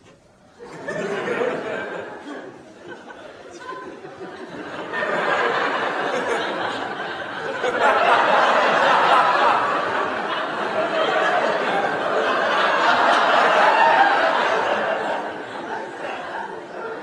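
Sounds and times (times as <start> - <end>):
studio audience laughing: 0.6 - 17.0.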